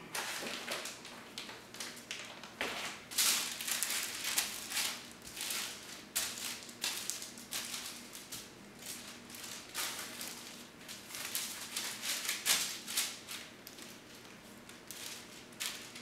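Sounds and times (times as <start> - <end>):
parchment paper rustling: 0.1 - 16.0.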